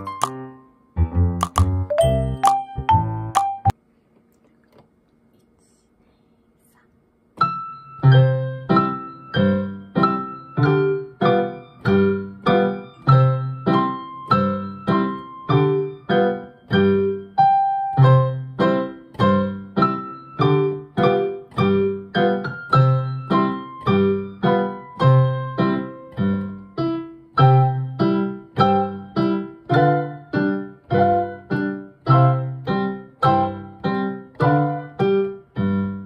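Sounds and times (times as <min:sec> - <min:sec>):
piano duet: 0:00.0 - 0:03.8, 0:07.4 - 0:36.0.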